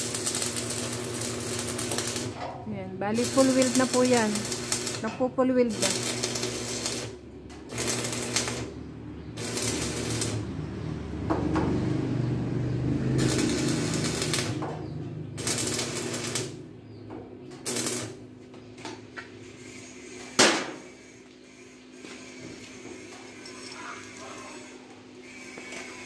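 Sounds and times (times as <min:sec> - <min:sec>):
crackling welding arc: 0:00.0 - 0:10.6, 0:13.0 - 0:16.7, 0:17.6 - 0:18.2, 0:19.4 - 0:26.0.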